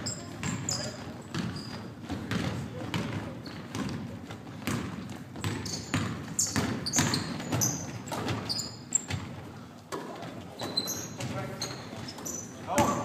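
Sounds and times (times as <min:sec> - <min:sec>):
sneakers squeaking: 0:00.0 - 0:13.0
basketball bouncing: 0:00.3 - 0:10.3, 0:11.2 - 0:13.0.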